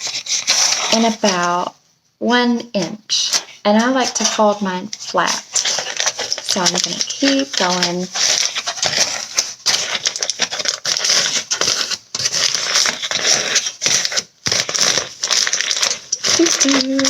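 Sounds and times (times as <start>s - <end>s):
aluminium foil crinkling: 3.1s - 17.0s.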